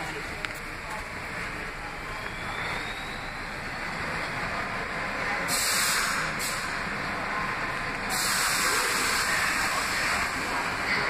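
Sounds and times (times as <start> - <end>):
subway train rumble: 0.0 - 11.0.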